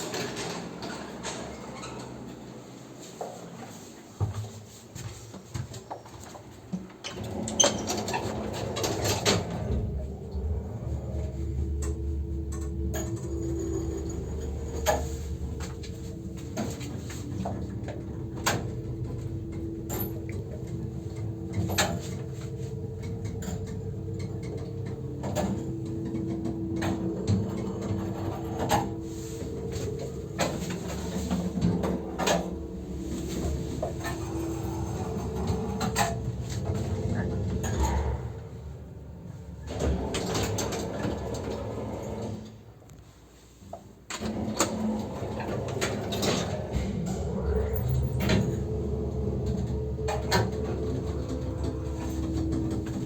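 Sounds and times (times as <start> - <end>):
lift motor humming: 7.1 - 42.7, 44.2 - 53.0.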